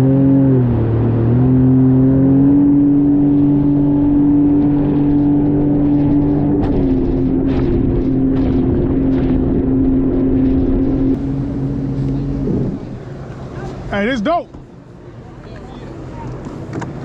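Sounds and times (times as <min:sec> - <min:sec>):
jet ski engine drone: 0:00.0 - 0:17.0.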